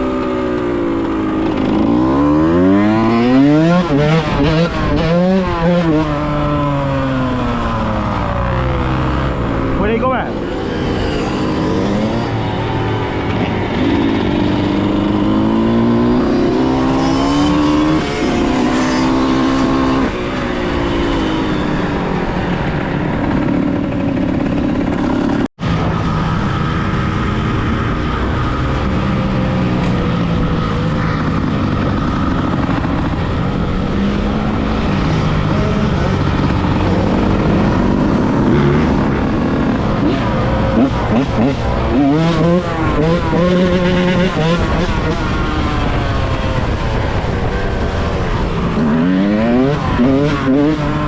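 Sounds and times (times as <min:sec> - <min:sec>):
dirt bike engine revving: 0:00.0 - 0:25.5, 0:30.1 - 0:46.0, 0:46.7 - 0:51.0.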